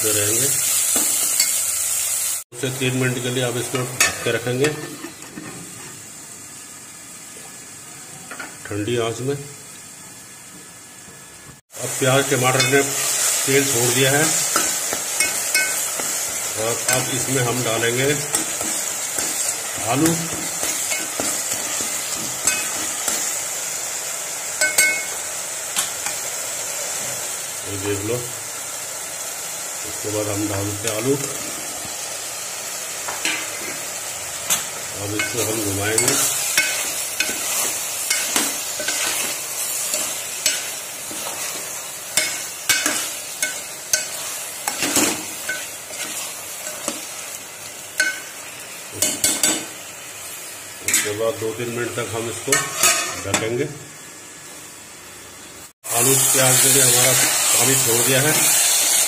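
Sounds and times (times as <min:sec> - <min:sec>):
masala sizzling in oil: 0:00.0 - 0:59.0.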